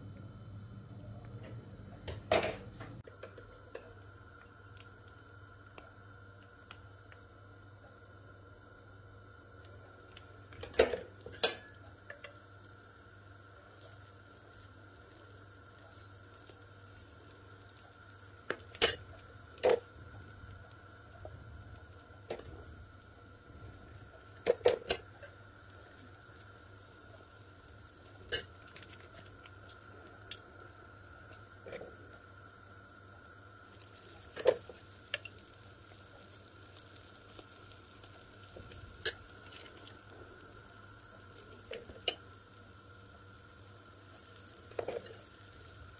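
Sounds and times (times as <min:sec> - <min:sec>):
oil sizzling: 0:03.0 - 0:45.9.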